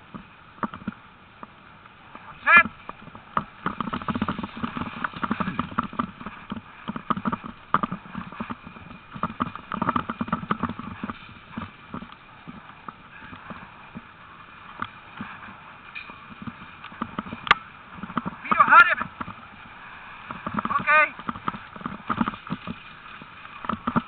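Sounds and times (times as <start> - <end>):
patter of dog paws: 2.2 - 24.0.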